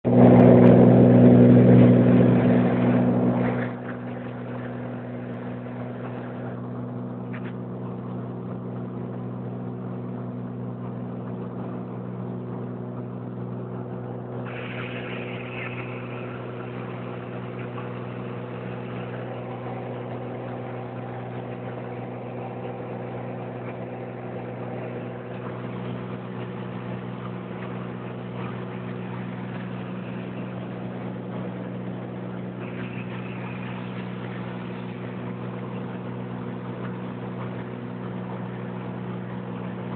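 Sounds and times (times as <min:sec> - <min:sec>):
aircraft engine droning in cabin: 0:00.0 - 0:39.9.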